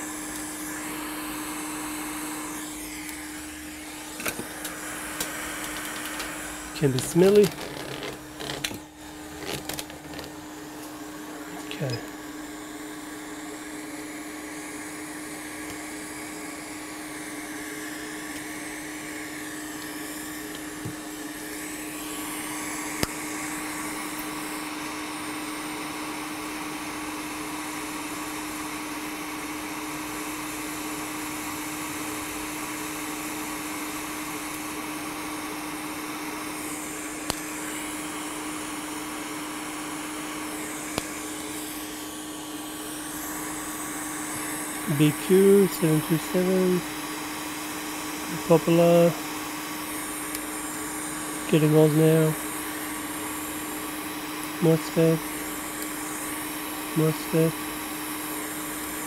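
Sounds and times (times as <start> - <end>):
fan hum: 0.0 - 59.0
hot air blowing: 0.0 - 59.0.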